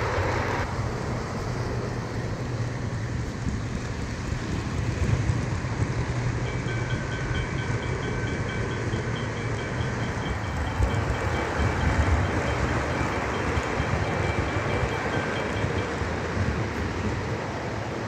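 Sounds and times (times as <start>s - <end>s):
model train rumbling: 0.0s - 18.0s.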